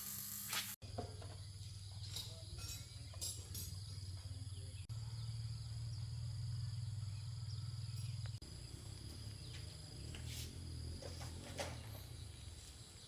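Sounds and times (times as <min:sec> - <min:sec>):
insects droning: 0:00.8 - 0:13.0.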